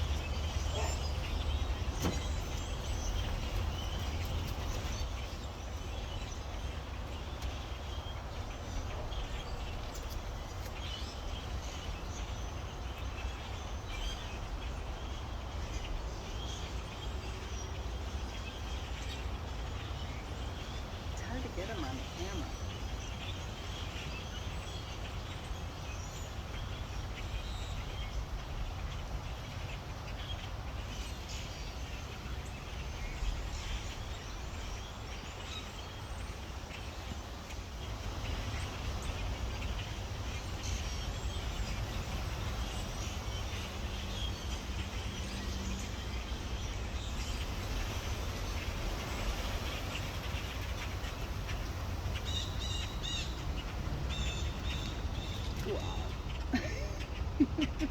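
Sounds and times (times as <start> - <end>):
flock of birds chirping: 0.0 - 57.9.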